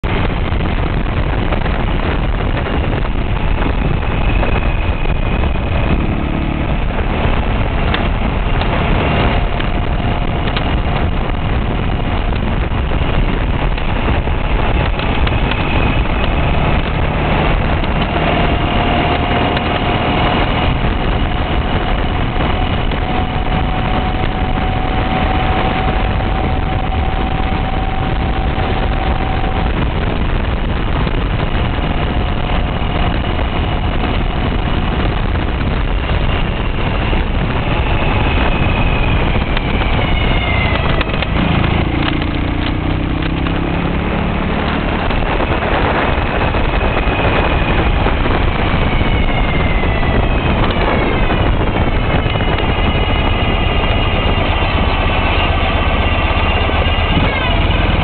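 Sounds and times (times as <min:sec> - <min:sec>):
faint whine: 0:00.0 - 0:58.0
motorcycle engine running: 0:00.0 - 0:58.0
road and wind noise: 0:00.0 - 0:58.0.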